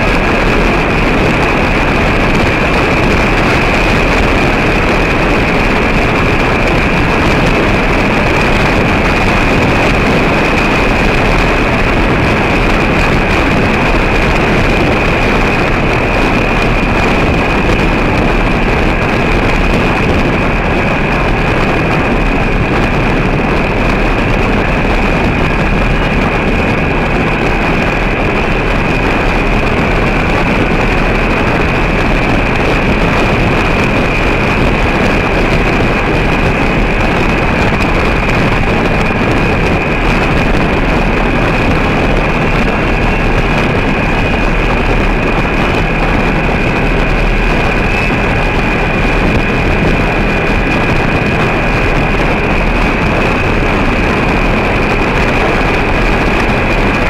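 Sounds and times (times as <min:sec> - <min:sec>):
gravel road noise: 0:00.0 - 0:57.0
thin high whine: 0:00.0 - 0:57.0
vehicle engine cruising: 0:00.0 - 0:57.0.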